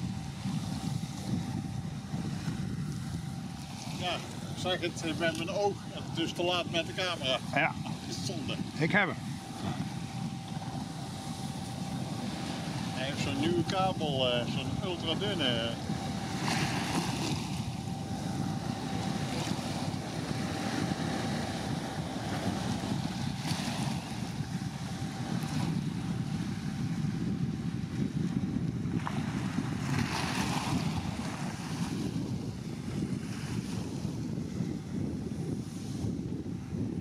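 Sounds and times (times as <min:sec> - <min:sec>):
faint steady hum: 0:00.0 - 0:37.0
wind buffeting microphone: 0:00.0 - 0:37.0.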